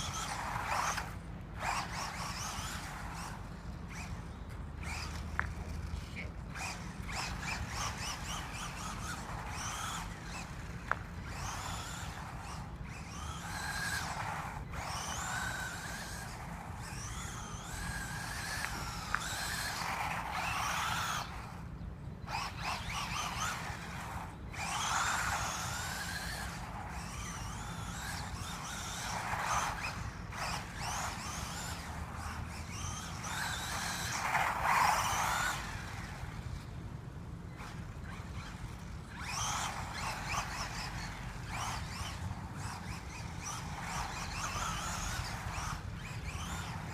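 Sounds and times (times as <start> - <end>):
remote-control car motor whining: 0.0 - 46.9.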